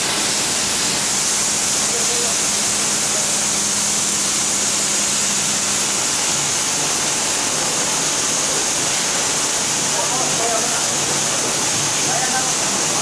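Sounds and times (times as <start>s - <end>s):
hissing water spray: 0.0s - 13.0s.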